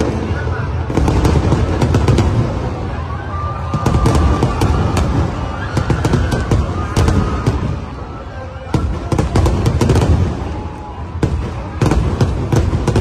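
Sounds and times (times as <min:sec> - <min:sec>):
fireworks booming: 0:00.0 - 0:13.0
fireworks crackling and popping: 0:00.0 - 0:13.0.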